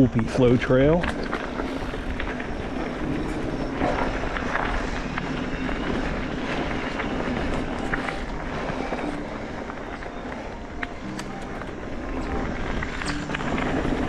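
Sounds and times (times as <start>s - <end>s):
bike clicks and rattles: 0.0s - 14.0s
bike tyres on dirt: 0.0s - 14.0s.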